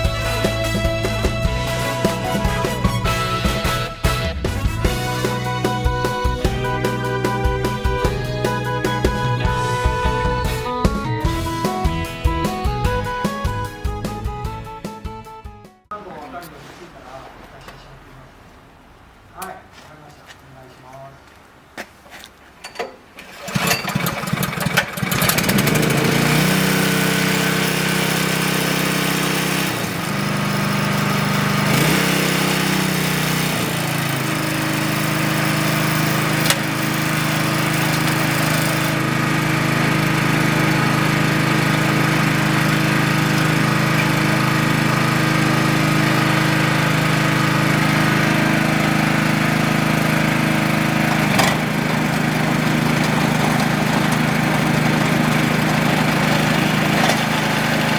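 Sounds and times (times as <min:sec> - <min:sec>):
snowblower engine running: 0:00.0 - 0:14.2, 0:23.3 - 0:57.9.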